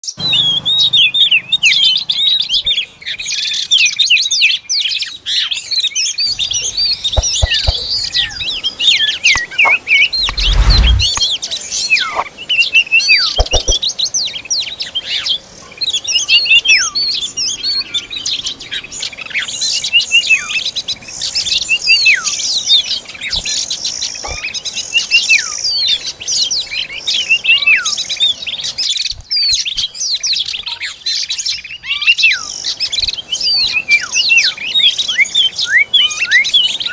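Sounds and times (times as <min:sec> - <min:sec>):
birds chirping and calling: 0:00.1 - 0:10.9, 0:13.4 - 0:36.9.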